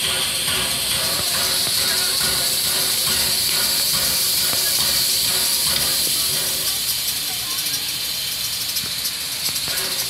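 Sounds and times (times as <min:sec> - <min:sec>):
steam hissing: 0:00.0 - 0:10.0.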